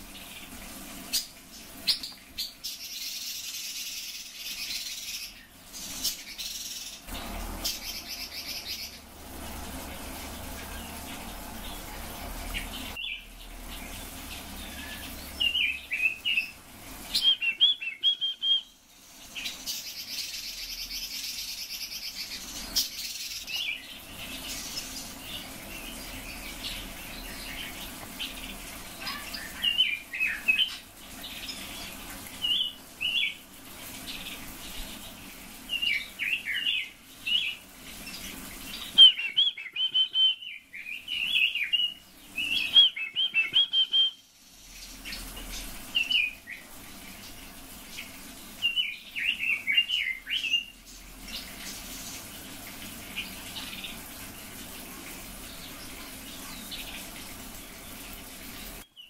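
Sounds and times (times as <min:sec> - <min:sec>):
birds chirping and warbling: 0:00.0 - 0:59.0
low background hum: 0:00.0 - 0:59.0.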